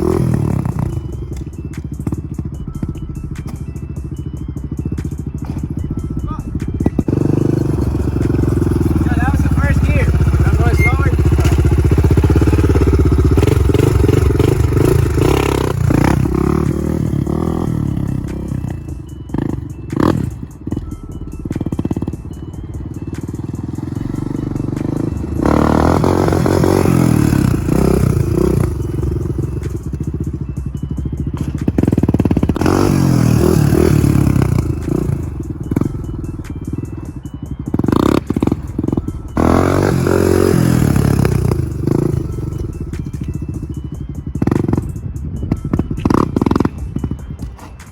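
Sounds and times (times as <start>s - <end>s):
quad engine revving: 0.0s - 2.2s, 4.9s - 30.5s, 31.1s - 43.8s, 44.4s - 44.9s, 45.6s - 47.9s.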